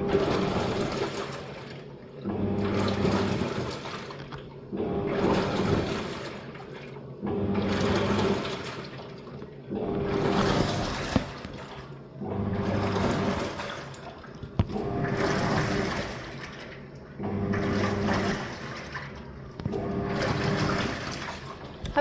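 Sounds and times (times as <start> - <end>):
washing machine motor hum: 0.0 - 22.0
water sloshing: 0.0 - 22.0.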